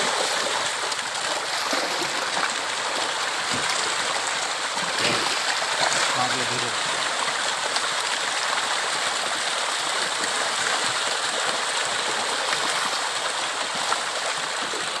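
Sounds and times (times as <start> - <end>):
fish splashing and thrashing water: 0.0 - 15.0.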